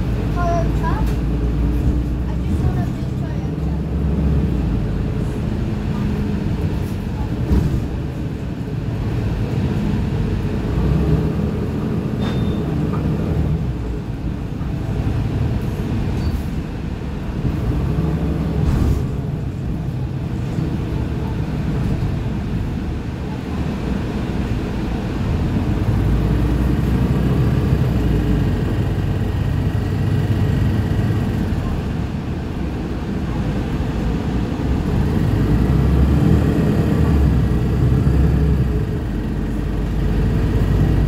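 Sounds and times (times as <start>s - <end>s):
bus engine running: 0.0s - 41.0s
road noise: 0.0s - 41.0s.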